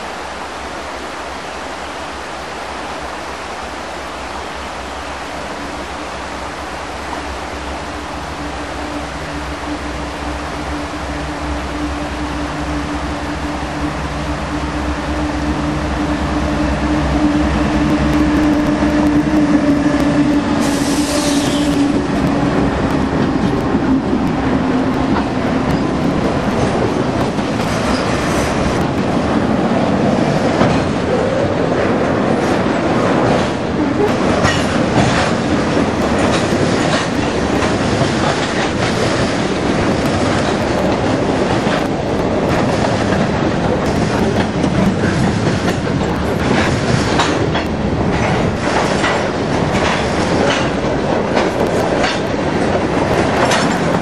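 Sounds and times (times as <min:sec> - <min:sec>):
diesel locomotive engine hum: 0:00.0 - 0:54.0.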